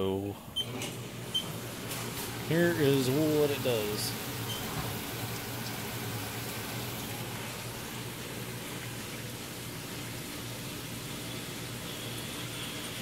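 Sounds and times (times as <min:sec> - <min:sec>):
coolant spraying hiss: 0:01.7 - 0:13.0.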